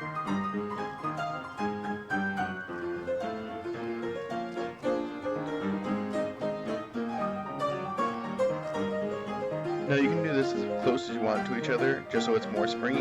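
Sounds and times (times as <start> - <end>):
piano melody: 0.0 - 13.0
string accompaniment: 0.0 - 13.0.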